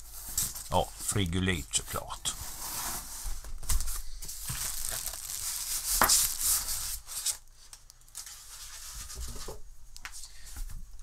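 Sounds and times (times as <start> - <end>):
foam and plastic wrap rustling: 0.0 - 9.6.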